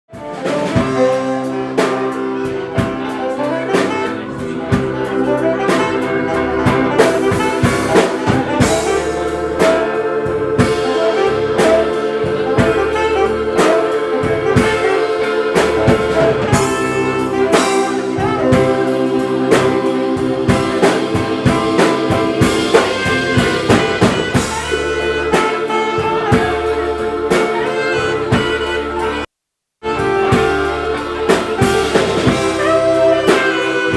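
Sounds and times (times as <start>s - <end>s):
band playing with horns: 0.1s - 33.9s
drum kit hits: 0.2s - 29.2s, 29.8s - 33.9s.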